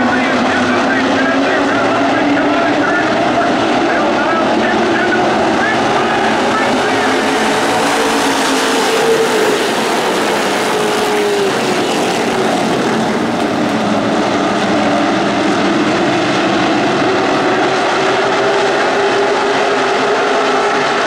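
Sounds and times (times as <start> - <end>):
race cars engines roaring: 0.0 - 21.0.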